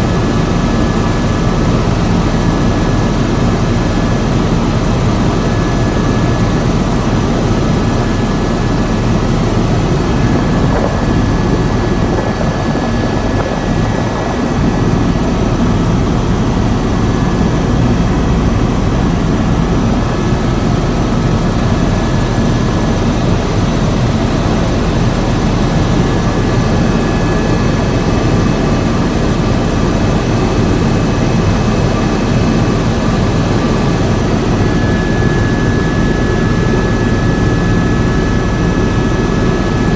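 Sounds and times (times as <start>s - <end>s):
helicopter rotor and engine drone: 0.0s - 39.9s
thin steady whine: 0.0s - 39.9s.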